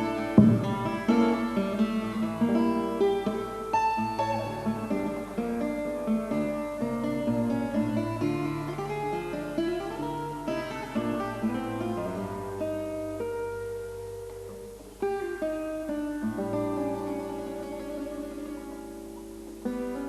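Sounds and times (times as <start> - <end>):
acoustic guitar melody: 0.0 - 20.0.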